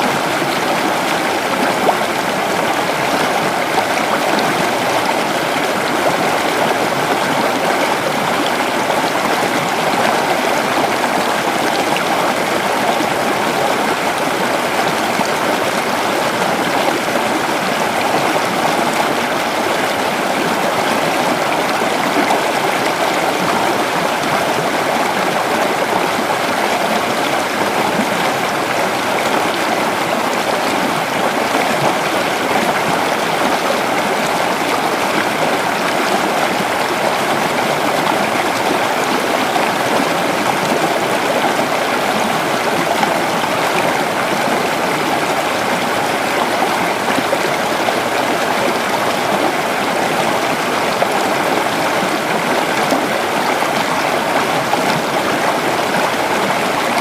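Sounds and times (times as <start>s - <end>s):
creek water flowing over rocks: 0.0s - 57.0s.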